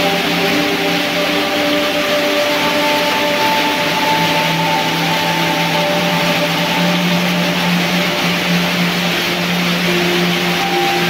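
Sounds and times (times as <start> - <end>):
heavy rain hissing: 0.0 - 11.0
rain drumming on metal roof: 0.0 - 11.0.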